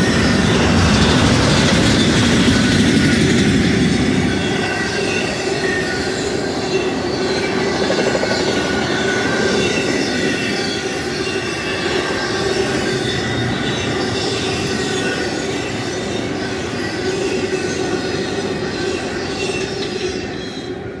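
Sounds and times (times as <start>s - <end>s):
train wheels clattering on rail: 0.0s - 21.0s
wheels squealing: 0.0s - 21.0s.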